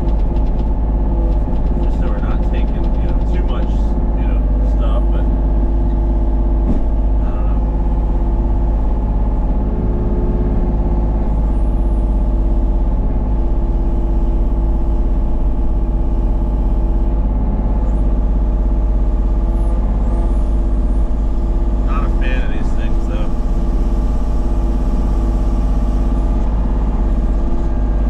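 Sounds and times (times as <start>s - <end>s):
excavator diesel engine running: 0.0s - 28.0s
hydraulic whine: 0.0s - 28.0s.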